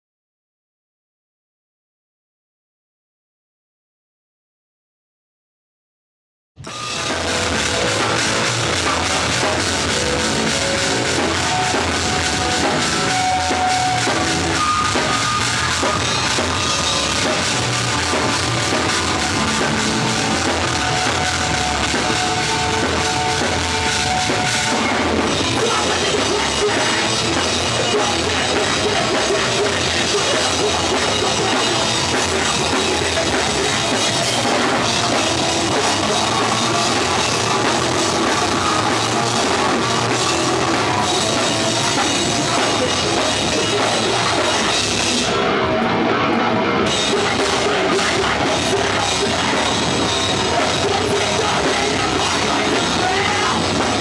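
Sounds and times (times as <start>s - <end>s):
drum kit with cymbals: 6.6s - 54.0s
electric guitar: 6.6s - 54.0s.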